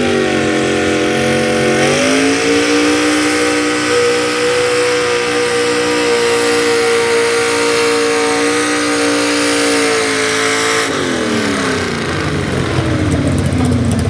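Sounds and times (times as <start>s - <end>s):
truck engine revving under load: 0.0s - 14.0s.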